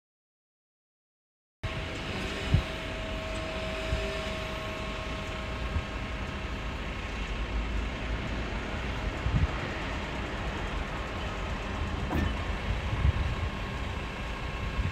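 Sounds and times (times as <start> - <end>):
truck engine rumbling: 1.7 - 14.9.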